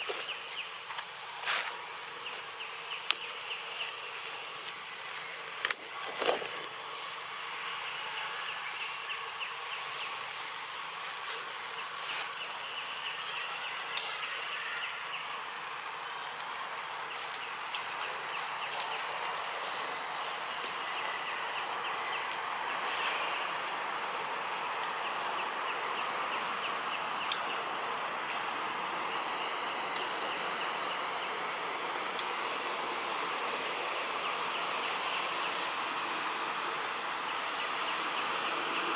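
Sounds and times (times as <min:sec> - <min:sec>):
high-pitched insect drone: 0:00.0 - 0:38.9
insects buzzing: 0:00.0 - 0:38.9.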